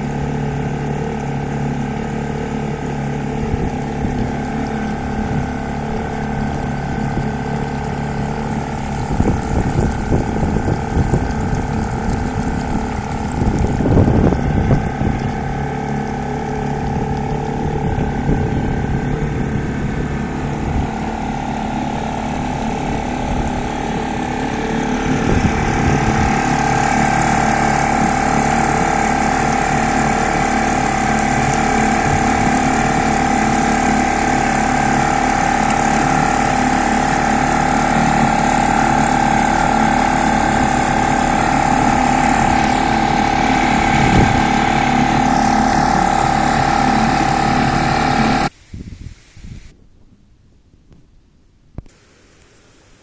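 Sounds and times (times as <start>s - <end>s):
outboard motor running: 0.0s - 48.6s.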